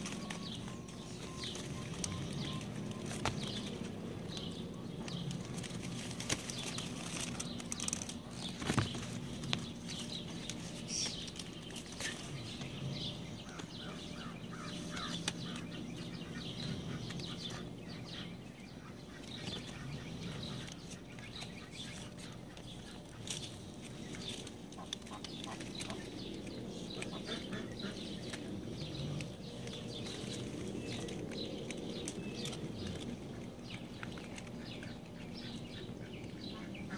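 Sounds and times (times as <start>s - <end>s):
birds chirping: 0.0s - 36.9s
steady low hum: 0.0s - 36.9s.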